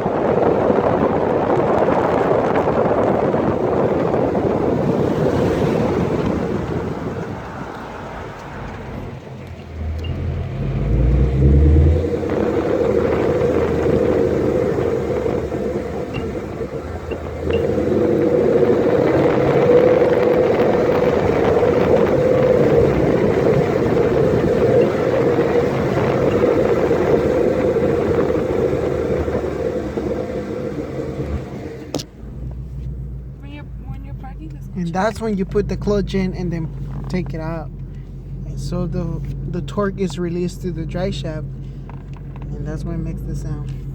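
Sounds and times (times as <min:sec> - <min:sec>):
car engine deep rumble: 0:00.0 - 0:43.9
road noise: 0:00.0 - 0:43.9.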